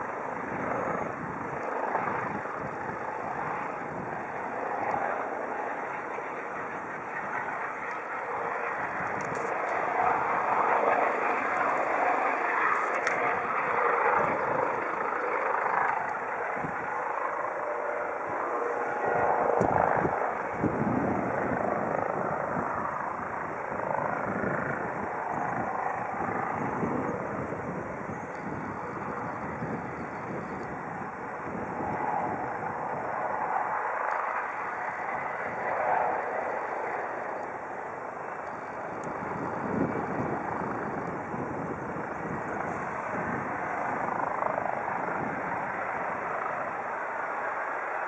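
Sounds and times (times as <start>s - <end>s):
helicopter rotor beat: 0.0s - 48.0s
helicopter turbine rush: 0.0s - 48.0s.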